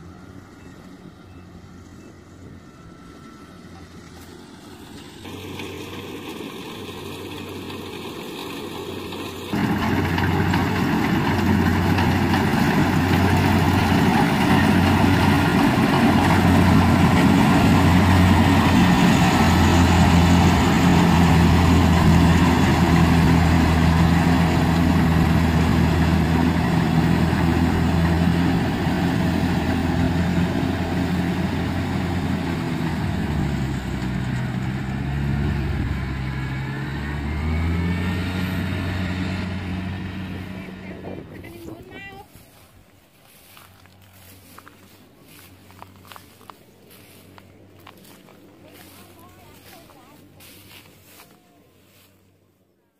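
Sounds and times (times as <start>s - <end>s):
combine harvester engine running: 0.0s - 52.5s.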